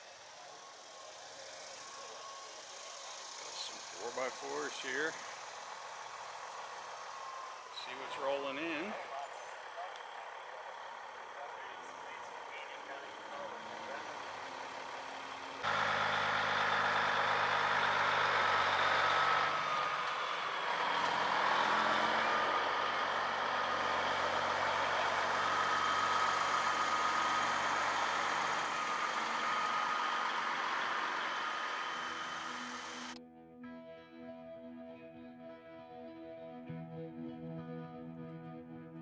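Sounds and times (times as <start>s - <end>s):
high engine whine: 0.0s - 33.2s
truck diesel engine passing: 0.0s - 33.2s.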